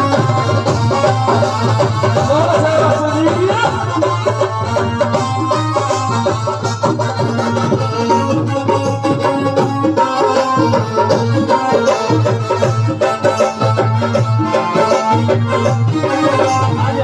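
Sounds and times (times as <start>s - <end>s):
electronic keyboard melody: 0.0s - 17.0s
hand drum rhythm: 0.0s - 17.0s.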